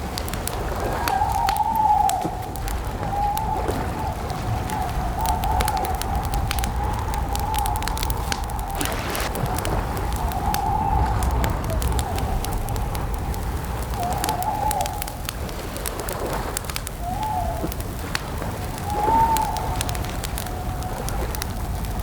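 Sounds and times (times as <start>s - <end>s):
crackling campfire: 0.0s - 22.0s.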